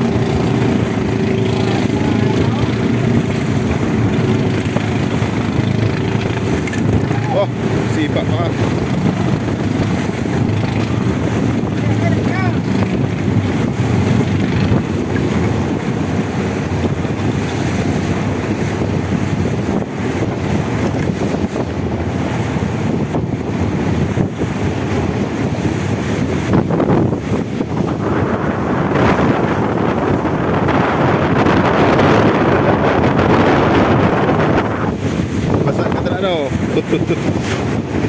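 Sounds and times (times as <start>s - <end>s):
boat engine running: 0.0s - 38.0s
water rushing along hull: 0.0s - 38.0s
wind buffeting microphone: 0.0s - 38.0s.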